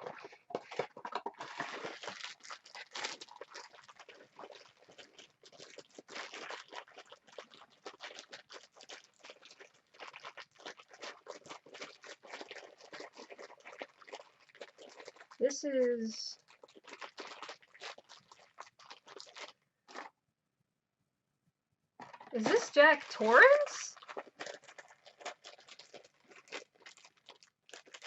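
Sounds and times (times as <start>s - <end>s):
cardboard and plastic wrap tearing: 0.0s - 15.3s, 16.5s - 20.1s, 22.0s - 28.0s.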